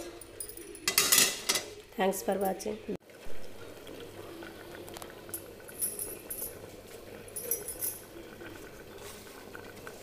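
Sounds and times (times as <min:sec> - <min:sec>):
pot bubbling and hissing: 0:00.0 - 0:10.0.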